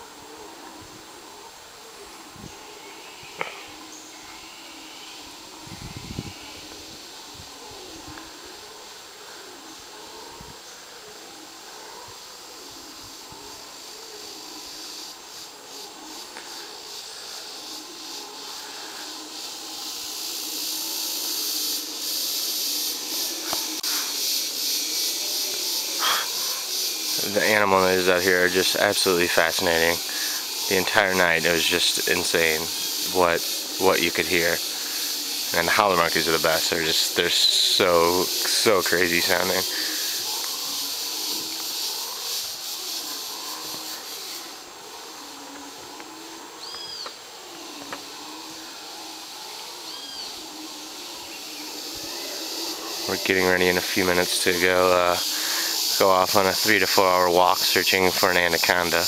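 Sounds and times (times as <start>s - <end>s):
dense insect chorus: 0.0s - 59.0s.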